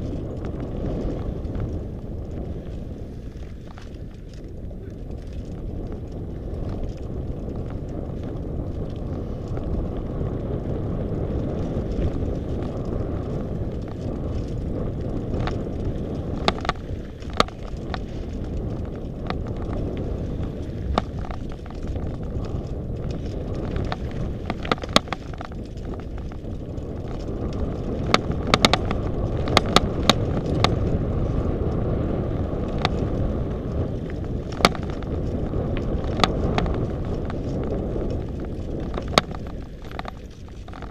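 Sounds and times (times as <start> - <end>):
bike rattling over stones: 0.0 - 40.9
bike tyres rumbling on dirt: 0.0 - 40.9
wind over microphone: 0.0 - 40.9.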